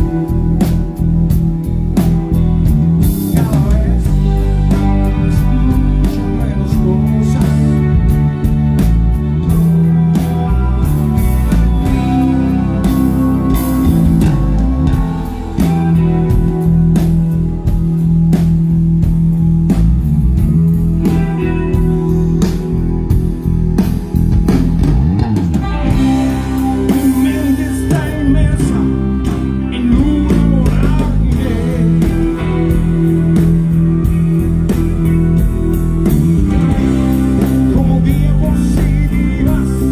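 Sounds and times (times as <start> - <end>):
drum kit: 0.0 - 39.9
electric guitar: 0.0 - 39.9
electric upright bass: 0.0 - 39.9.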